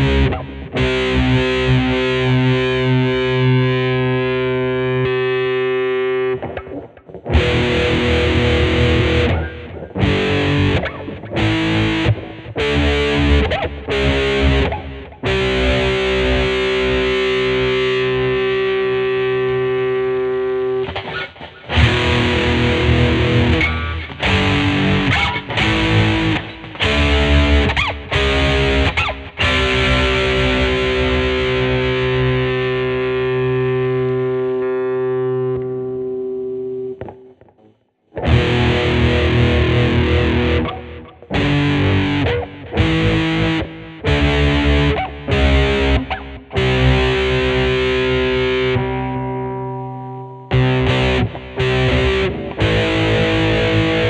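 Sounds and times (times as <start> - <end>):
choppy stabbed guitar chords: 0.0 - 54.0
distorted electric guitar chords: 0.0 - 54.0.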